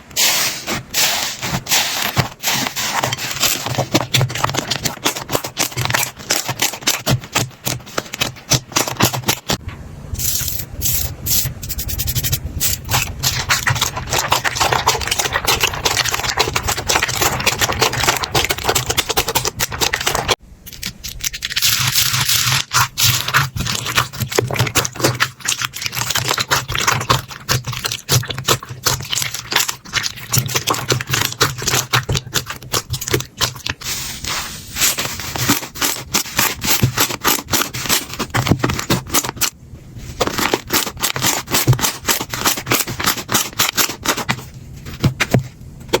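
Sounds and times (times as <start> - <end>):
slime clicking and crackling: 0.7 - 9.6, 12.0 - 33.8, 34.8 - 39.6, 40.2 - 46.0.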